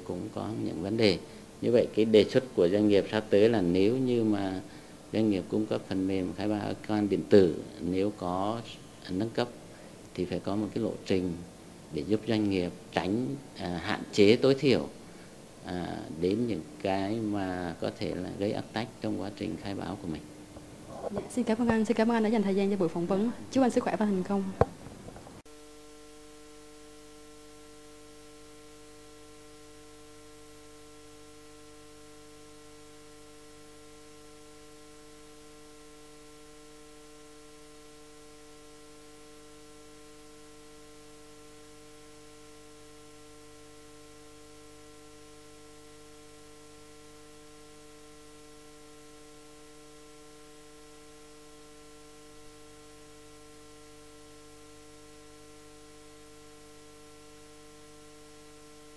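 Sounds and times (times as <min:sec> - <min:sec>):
faint electrical hum: 0:00.0 - 0:58.9
low hiss: 0:00.0 - 0:58.9.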